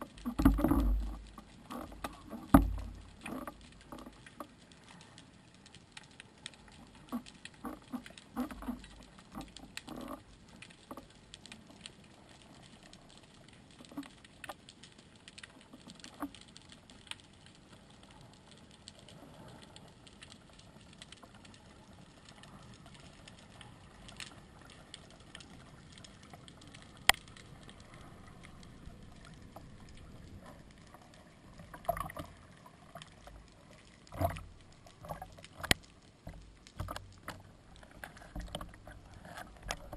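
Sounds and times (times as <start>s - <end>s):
small clicks: 0.0s - 39.9s
water swishing: 0.0s - 39.9s.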